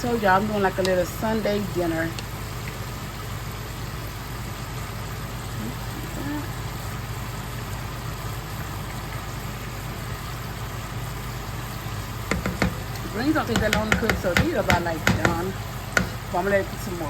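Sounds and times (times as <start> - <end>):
range hood fan humming: 0.0 - 17.0.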